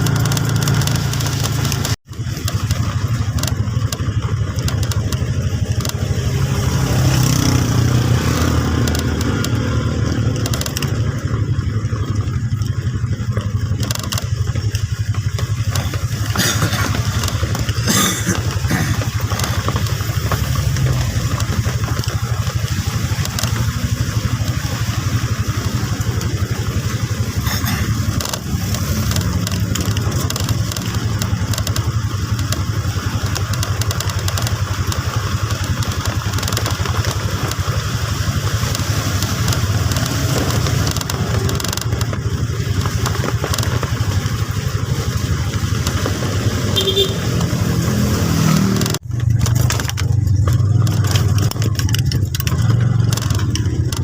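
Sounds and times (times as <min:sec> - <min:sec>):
engine running low drone: 0:00.0 - 0:54.0.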